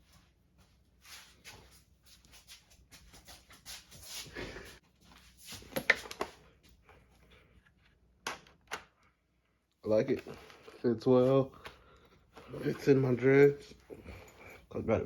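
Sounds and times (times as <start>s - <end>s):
helmet rustling and scraping: 0.0s - 8.2s, 9.8s - 15.0s.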